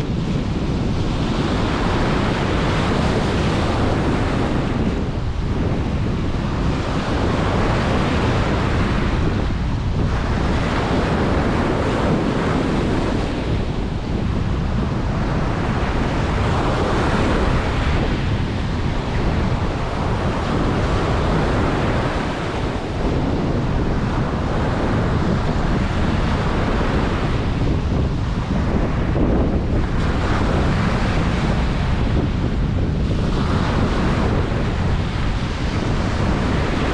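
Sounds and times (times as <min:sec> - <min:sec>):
ocean waves breaking on beach: 0:00.0 - 0:36.9
wind buffeting microphone: 0:00.0 - 0:36.9.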